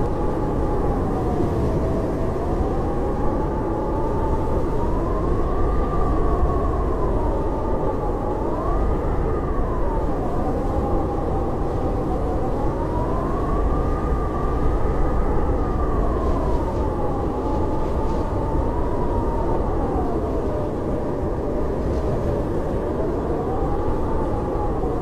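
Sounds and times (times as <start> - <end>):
howling blizzard wind: 0.0 - 25.0.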